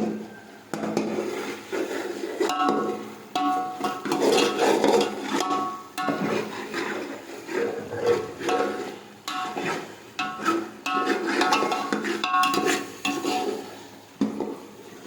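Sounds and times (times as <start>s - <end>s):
metal spoon scraping a pot: 0.9s - 14.0s.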